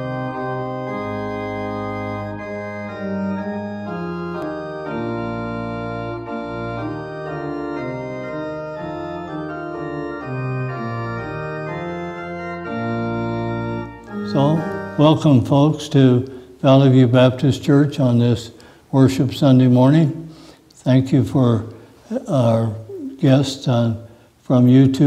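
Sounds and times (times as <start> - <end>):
organ playing slow chords: 0.0 - 25.0.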